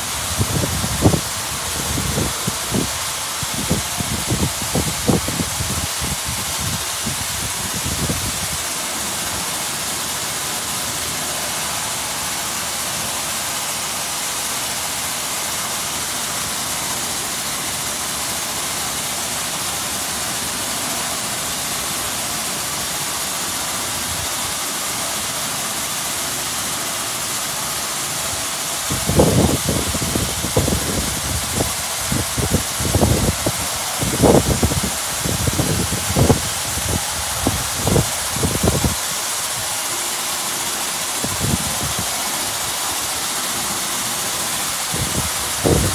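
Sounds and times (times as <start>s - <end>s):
car wash water spray hiss: 0.0s - 45.9s.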